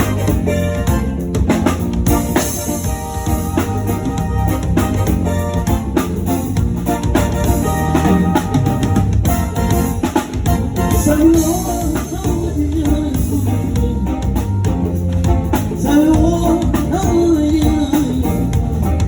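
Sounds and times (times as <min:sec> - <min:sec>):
bass drum and snare hits: 0:00.0 - 0:19.0
live band playing: 0:00.0 - 0:19.0.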